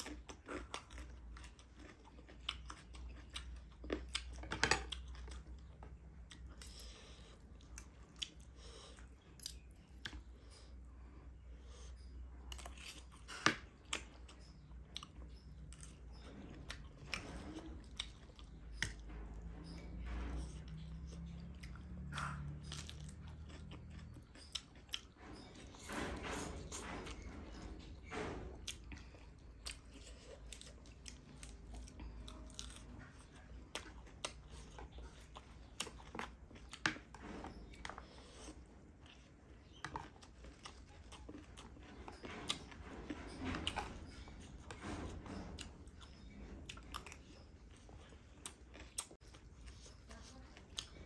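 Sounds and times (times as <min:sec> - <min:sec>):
person chewing and crunching: 0:00.0 - 0:10.7, 0:12.5 - 0:19.0, 0:21.5 - 0:25.9, 0:28.6 - 0:42.8, 0:45.6 - 0:51.0.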